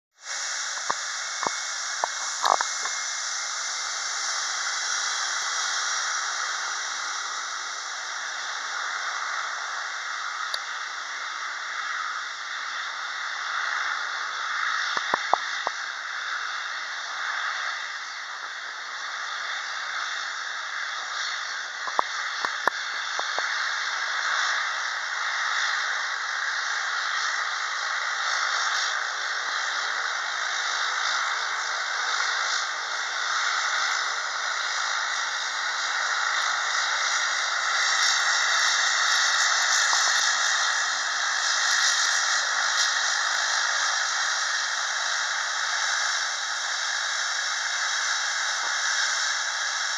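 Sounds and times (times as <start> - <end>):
jet engines taxiing hiss: 0.2 - 49.9.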